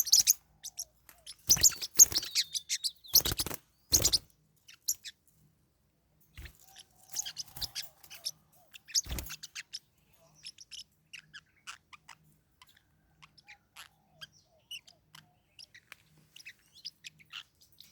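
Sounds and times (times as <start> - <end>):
parrotlets chirping: 0.0 - 5.4, 6.3 - 17.9.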